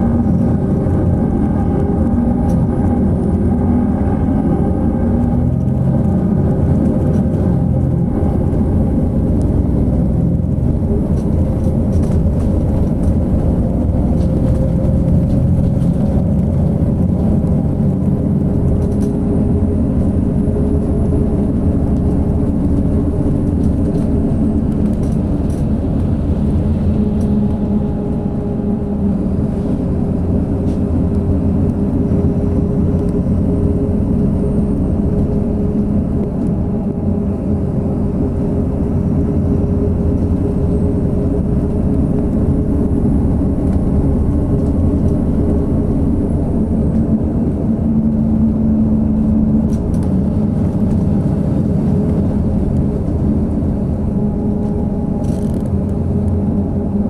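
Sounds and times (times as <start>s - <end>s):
coach engine and road rumble: 0.0s - 57.0s.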